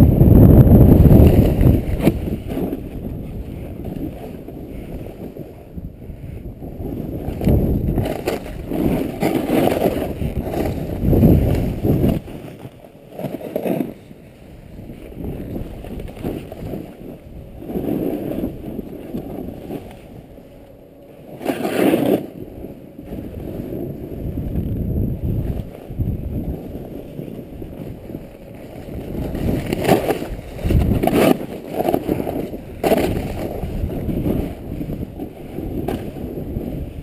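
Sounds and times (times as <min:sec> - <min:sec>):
snowboard carving through snow: 0:00.0 - 0:37.0
wind buffeting microphone: 0:00.0 - 0:37.0.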